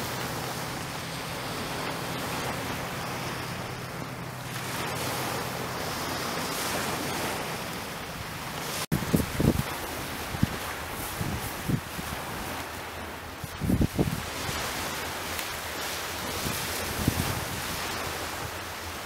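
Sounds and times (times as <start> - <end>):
waves washing up shingle: 0.0 - 19.0
wind gusts on microphone: 0.0 - 19.0.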